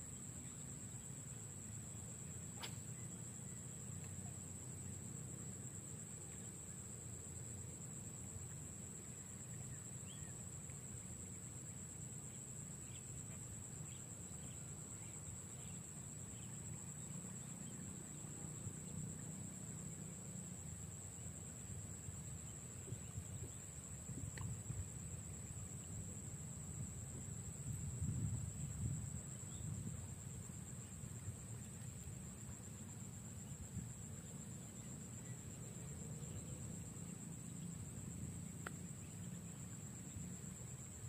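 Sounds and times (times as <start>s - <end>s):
cricket-like insect drone: 0.0s - 41.0s.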